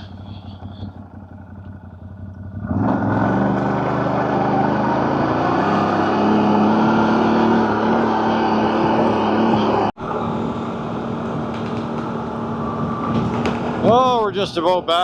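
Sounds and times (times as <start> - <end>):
engine revving: 0.0 - 14.9.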